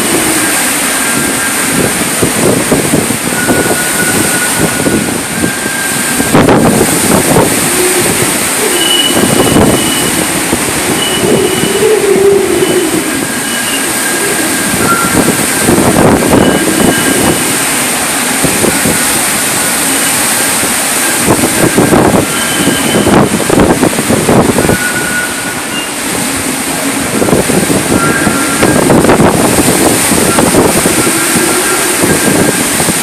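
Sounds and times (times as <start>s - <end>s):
high wind whistles: 0.0s - 33.0s
strong wind gusts: 0.0s - 33.0s.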